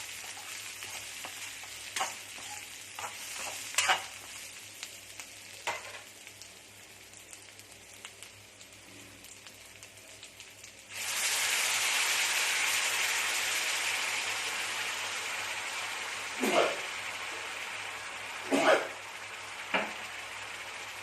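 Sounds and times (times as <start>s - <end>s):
food sizzling in a hot pan: 0.0s - 21.0s.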